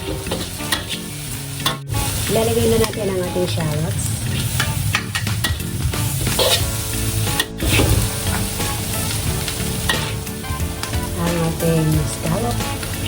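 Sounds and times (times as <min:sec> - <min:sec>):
utensil scraping a pan: 0:00.0 - 0:01.9, 0:02.6 - 0:11.4
food sizzling in hot oil: 0:00.0 - 0:13.0.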